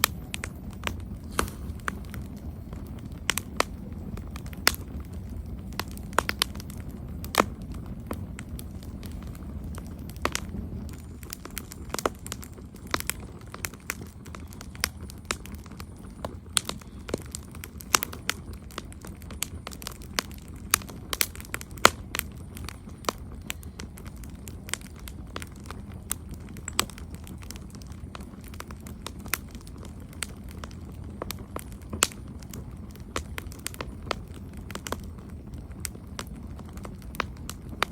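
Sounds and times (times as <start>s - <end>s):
campfire crackling: 0.0s - 37.9s
low rumble of flames: 0.0s - 37.9s.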